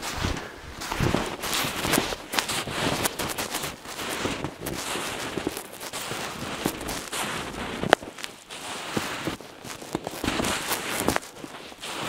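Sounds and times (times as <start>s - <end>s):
footsteps crunching in snow: 0.0s - 12.0s.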